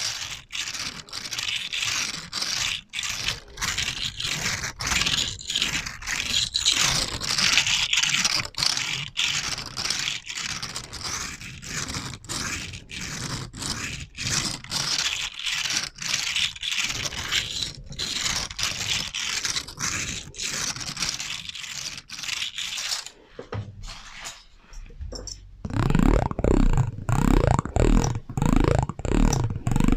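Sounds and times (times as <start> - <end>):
scraping strokes: 0.0 - 25.0.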